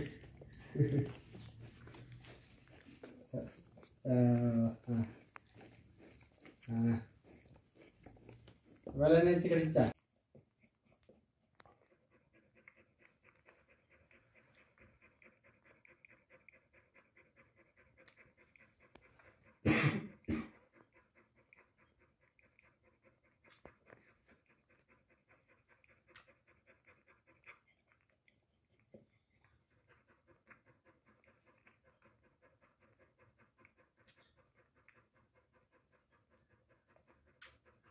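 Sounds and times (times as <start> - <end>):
dog panting quickly: 0.0 - 37.9.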